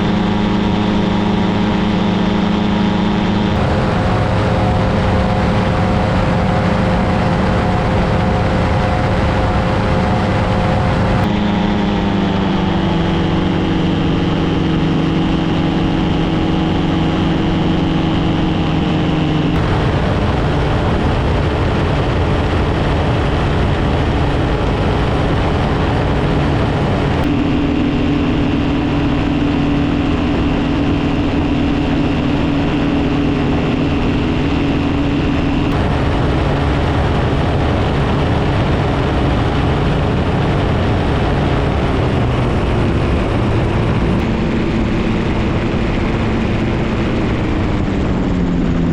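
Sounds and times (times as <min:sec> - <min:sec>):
paramotor engine and propeller: 0:00.0 - 0:48.9.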